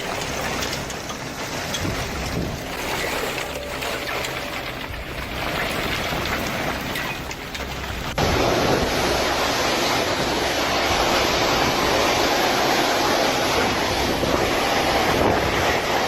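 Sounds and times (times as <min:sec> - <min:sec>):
soft rain-like hiss: 0:00.0 - 0:16.0
storm wind and surf: 0:00.0 - 0:16.0
wind buffeting microphone: 0:00.0 - 0:16.0.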